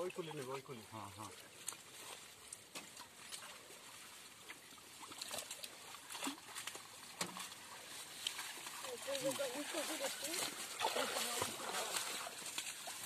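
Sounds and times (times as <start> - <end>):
small clicks and drips: 0.0 - 13.0
water sloshing and splashing: 0.0 - 13.0.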